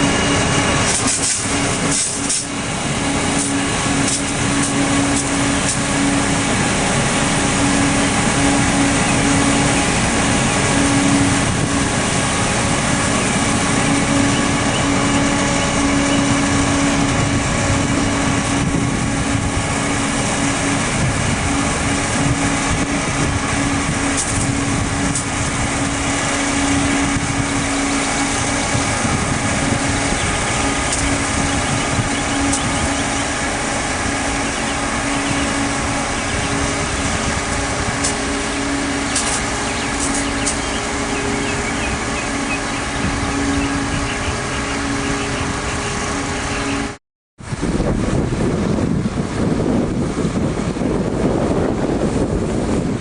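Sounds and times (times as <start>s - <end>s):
constant droning hum: 0.0s - 53.0s
diesel truck engine running: 0.0s - 53.0s.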